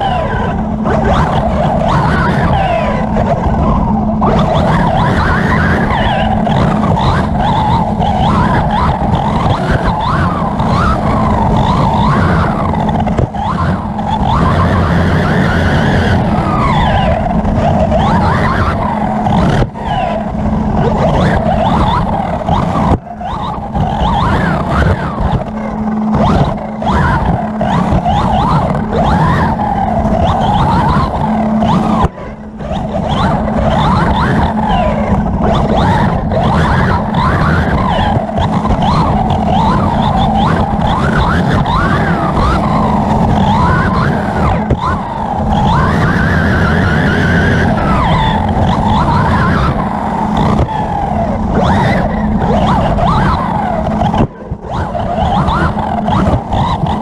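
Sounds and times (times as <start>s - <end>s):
drivetrain hum and rattle: 0.0s - 57.0s
electric motor whining: 0.0s - 57.0s.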